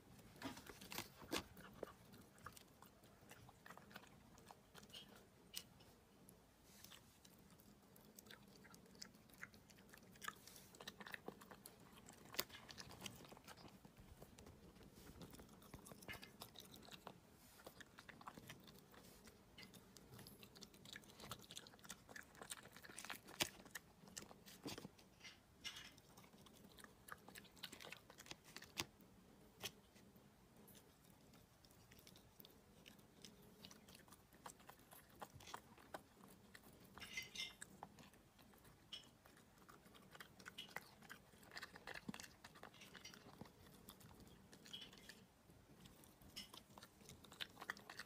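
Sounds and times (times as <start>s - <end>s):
puppy chewing with mouth clicks: 0.0s - 48.0s.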